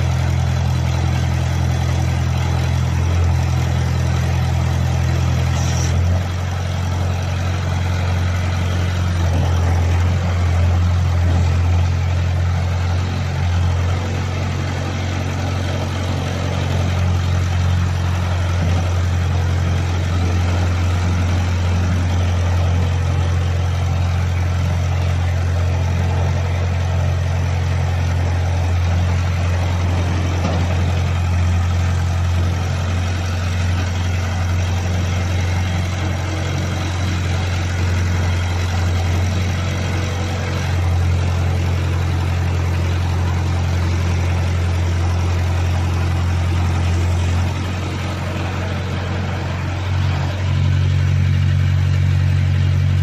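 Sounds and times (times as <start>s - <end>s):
drilling rig droning: 0.0s - 53.0s.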